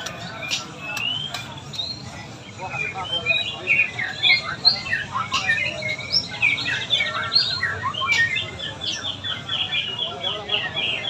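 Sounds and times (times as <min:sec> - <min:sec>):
birds chirping and squawking: 0:00.0 - 0:11.0.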